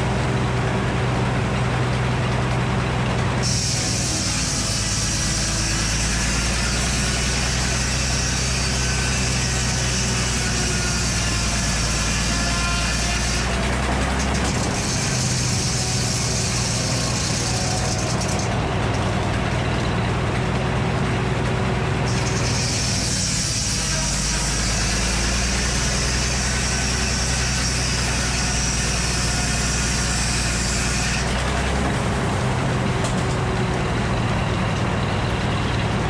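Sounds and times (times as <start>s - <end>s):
large engine running: 0.0s - 36.0s.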